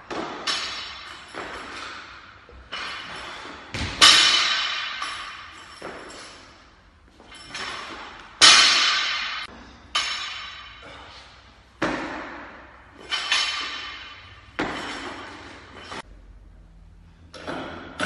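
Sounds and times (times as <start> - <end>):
barbell plates clanging: 0.1 - 11.1, 11.9 - 16.0.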